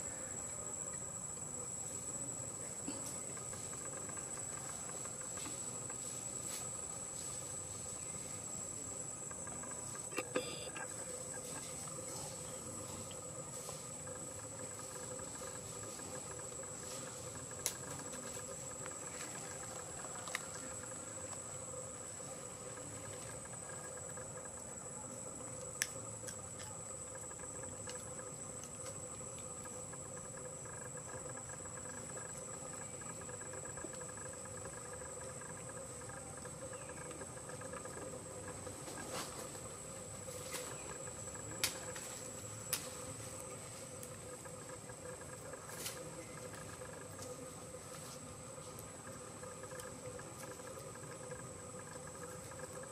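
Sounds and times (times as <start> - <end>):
high-pitched insect drone: 0.0 - 52.9
low steady hum: 0.0 - 52.9.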